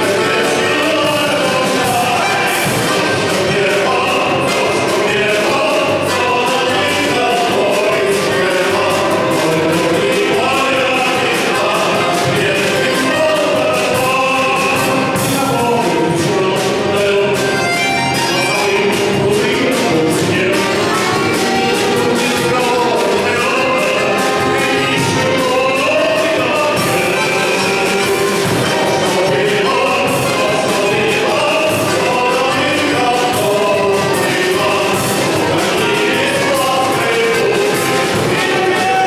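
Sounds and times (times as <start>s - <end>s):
accordion: 0.0s - 39.0s
acoustic guitar: 0.0s - 39.0s
men singing together: 0.0s - 39.0s
steady drum beat: 0.0s - 39.0s
violin: 0.0s - 39.0s.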